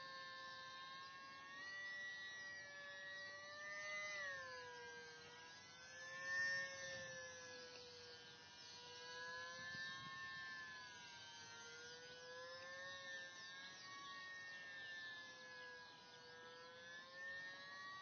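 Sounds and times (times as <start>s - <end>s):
model plane propeller whining: 0.0s - 18.0s.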